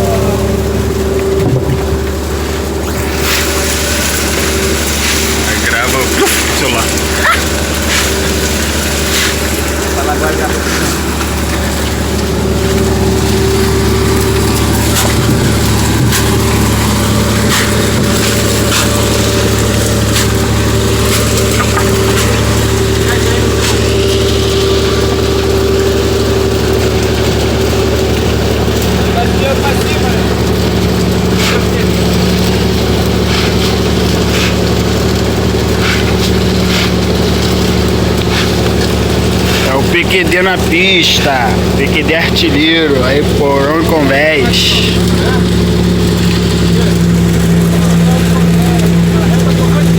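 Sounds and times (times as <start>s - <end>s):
boat engine humming: 0.0s - 49.9s.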